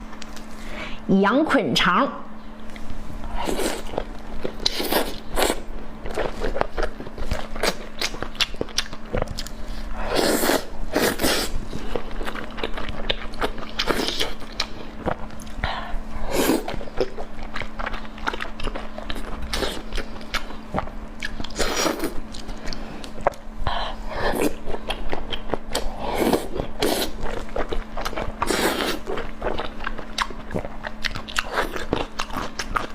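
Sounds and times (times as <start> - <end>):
person chewing food: 2.6 - 32.9.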